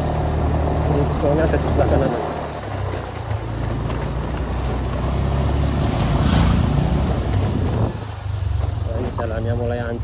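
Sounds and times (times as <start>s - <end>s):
road noise: 0.0s - 10.0s
vehicle engine humming: 0.0s - 10.0s.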